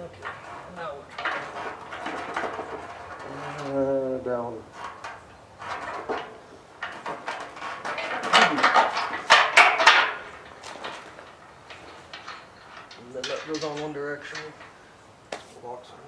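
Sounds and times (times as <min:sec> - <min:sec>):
metal tools clanking and rattling: 0:00.0 - 0:15.0.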